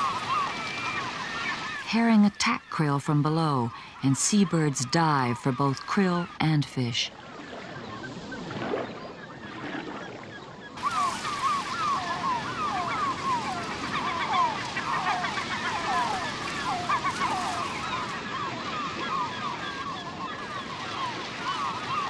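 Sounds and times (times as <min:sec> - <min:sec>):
flock of seabirds calling: 0:00.0 - 0:22.0
sea noise: 0:00.0 - 0:22.0.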